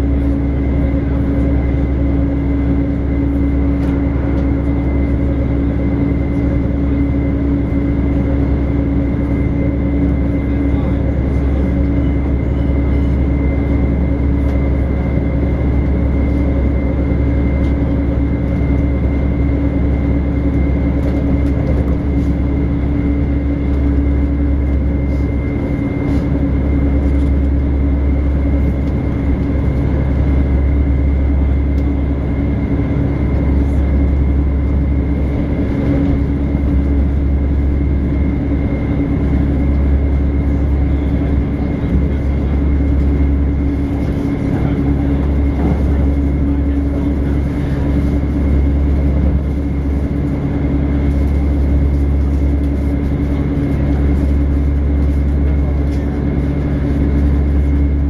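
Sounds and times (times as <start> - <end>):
train rumble from inside carriage: 0.0 - 58.0.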